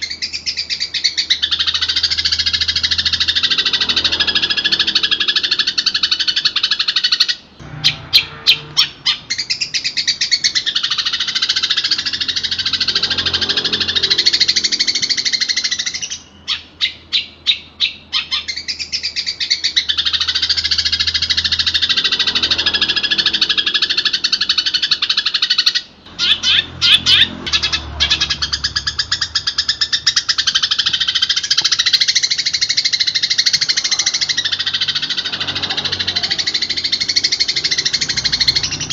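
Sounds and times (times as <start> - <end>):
quick repeated bird notes: 0.0 - 38.9
shrike singing: 0.0 - 38.9.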